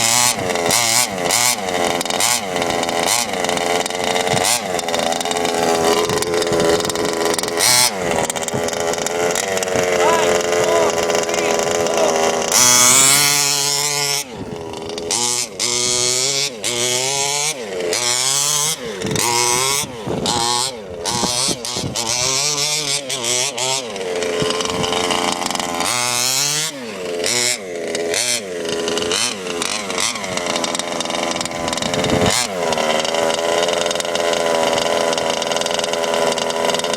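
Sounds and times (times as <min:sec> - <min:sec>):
small two-stroke engine revving: 0:00.0 - 0:36.9.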